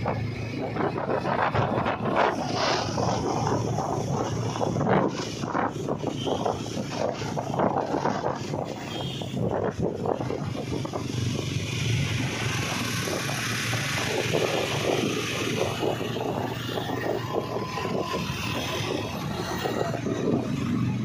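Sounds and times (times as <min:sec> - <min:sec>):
motorcycle engine cruising: 0:00.0 - 0:21.0
wind and road noise: 0:00.0 - 0:21.0.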